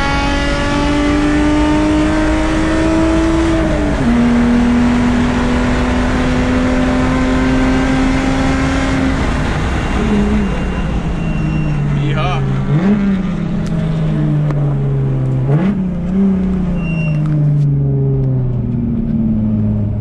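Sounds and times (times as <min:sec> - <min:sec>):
race car engine at full throttle: 0:00.0 - 0:20.0
tyre and road noise: 0:01.4 - 0:20.0.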